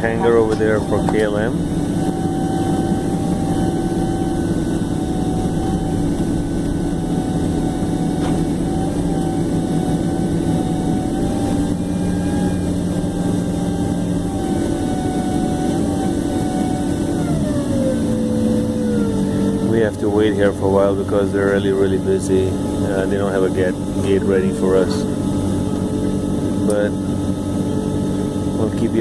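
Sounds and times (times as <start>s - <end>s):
jet engine rumble with whine: 0.0s - 29.0s.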